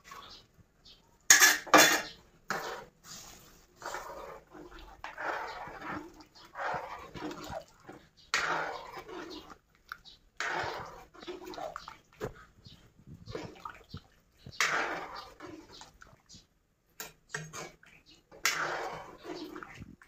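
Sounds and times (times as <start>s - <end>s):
spatula stirring simmering stew: 0.0s - 20.0s.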